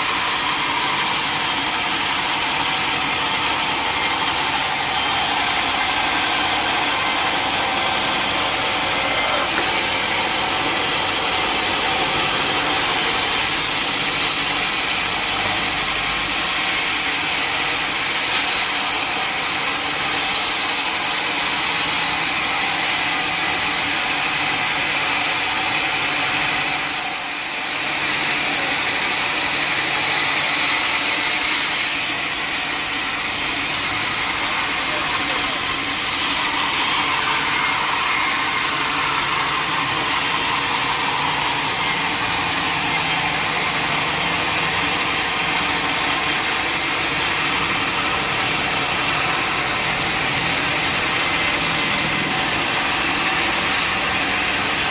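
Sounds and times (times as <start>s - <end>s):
saw cutting through log: 0.0s - 54.9s.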